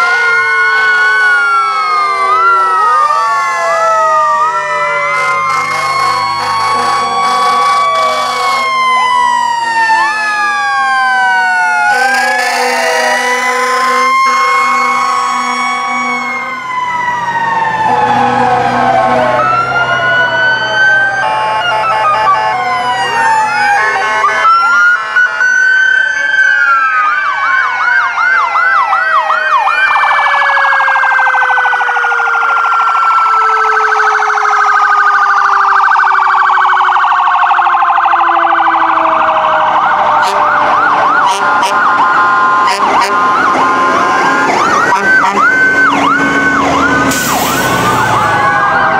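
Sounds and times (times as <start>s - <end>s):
emergency vehicle sirens wailing: 0.0s - 48.9s.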